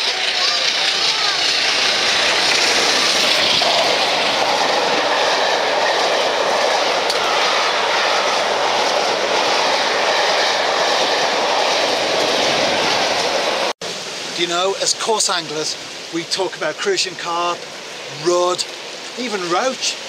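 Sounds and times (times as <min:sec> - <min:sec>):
steam train passing: 0:00.0 - 0:20.0.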